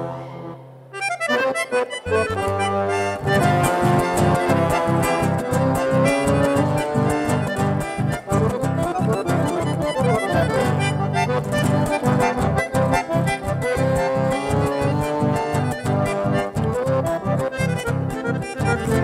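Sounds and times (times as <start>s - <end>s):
button accordion playing: 0.0s - 19.0s
guitar accompaniment: 0.0s - 19.0s.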